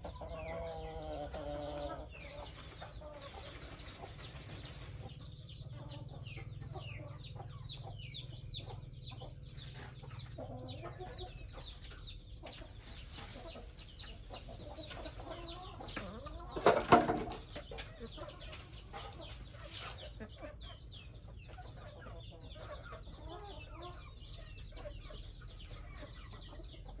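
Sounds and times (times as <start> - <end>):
chickens peeping: 0.0 - 27.0.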